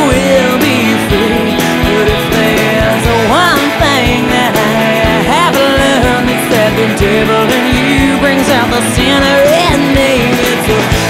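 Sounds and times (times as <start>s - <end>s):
song with singing voice: 0.0s - 11.0s.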